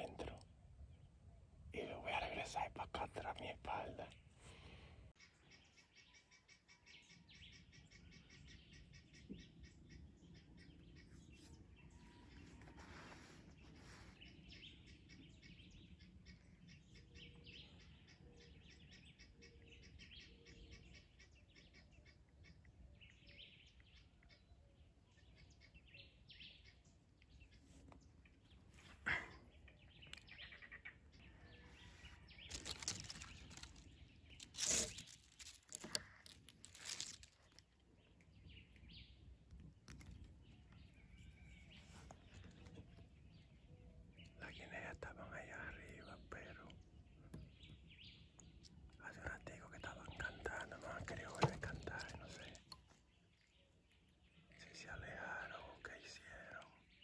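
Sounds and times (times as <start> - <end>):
distant bird chirps: 0.0 - 57.0.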